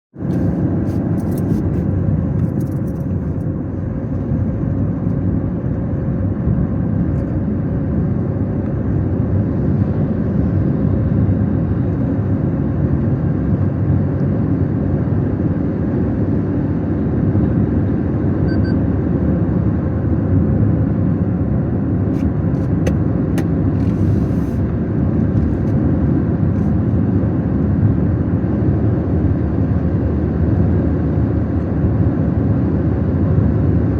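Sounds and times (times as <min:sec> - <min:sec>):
car engine rumble: 0:00.2 - 0:33.9
road noise: 0:00.2 - 0:33.9.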